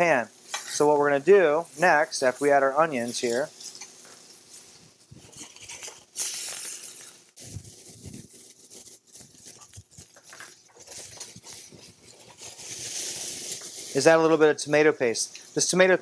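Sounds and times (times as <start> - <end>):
food sizzling in skillet: 0.0 - 16.0.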